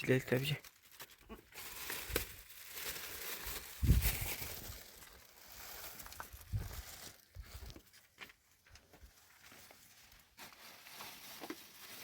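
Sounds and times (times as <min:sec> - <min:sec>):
rustling and handling noise: 0:00.0 - 0:12.0.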